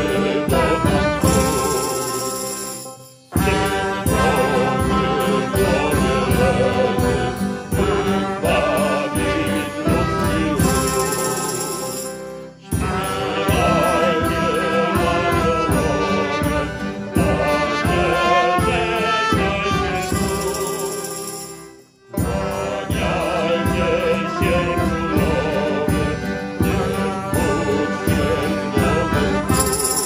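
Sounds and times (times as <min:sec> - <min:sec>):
group singing over a steady beat: 0:00.0 - 0:02.7, 0:03.3 - 0:21.2, 0:22.1 - 0:30.0
courtyard band music: 0:00.0 - 0:30.0.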